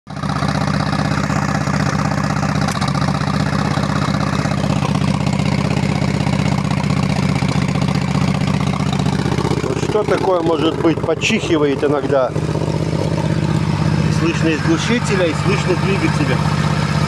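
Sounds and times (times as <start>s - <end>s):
motorcycle engine idling: 0.1s - 17.0s.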